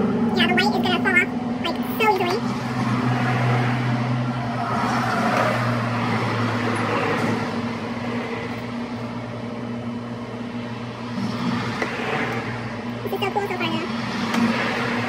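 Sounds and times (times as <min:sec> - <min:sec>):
low engine hum: 0:00.0 - 0:15.0
passing vehicles: 0:00.0 - 0:15.0.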